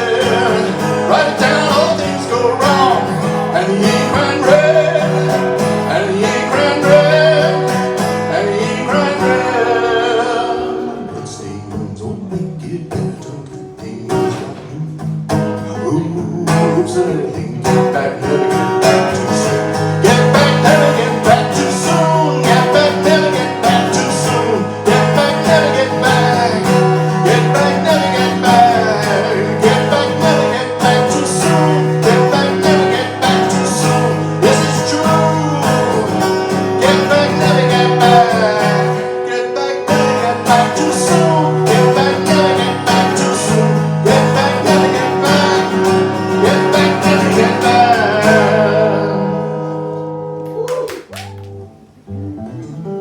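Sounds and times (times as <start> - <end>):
live song with guitar: 0.0 - 53.0.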